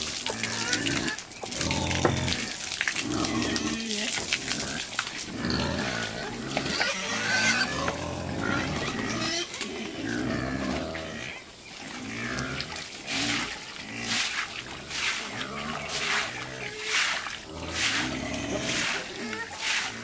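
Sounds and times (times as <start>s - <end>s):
pigs grunting: 0.0s - 20.0s.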